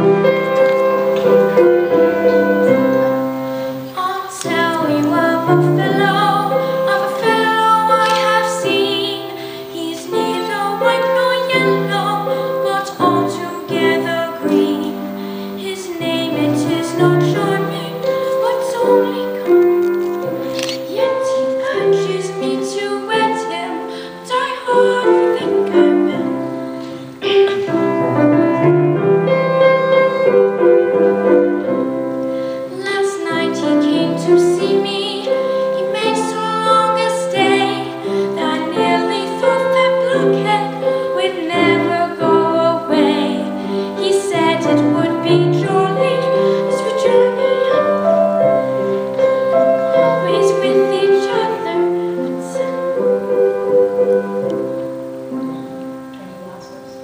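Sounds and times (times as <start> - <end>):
woman singing: 0.0 - 28.5, 29.3 - 56.8
piano accompaniment: 0.0 - 57.0.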